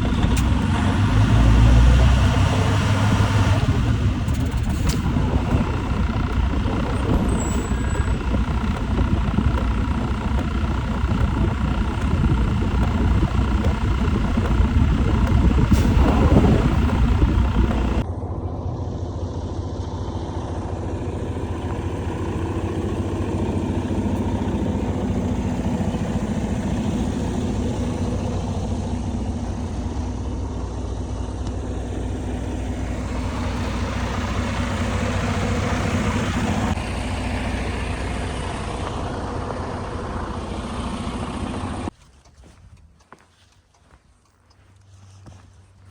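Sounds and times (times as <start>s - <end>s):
low hum: 0.0s - 41.0s
vehicle engine and road noise: 0.0s - 45.9s.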